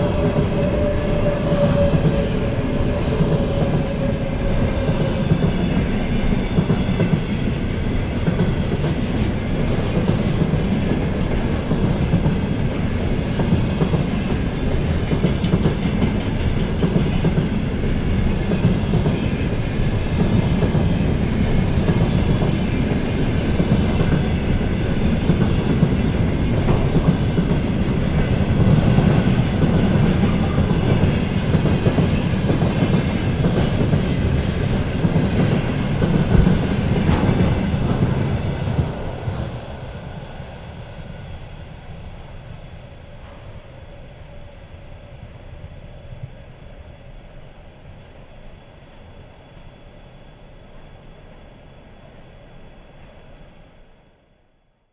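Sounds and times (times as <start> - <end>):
freight train rumble: 0.0 - 54.0.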